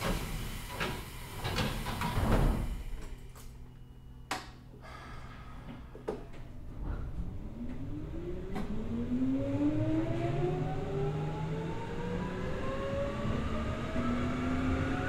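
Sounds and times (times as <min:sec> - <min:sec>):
low train running rumble: 0:00.0 - 0:15.0.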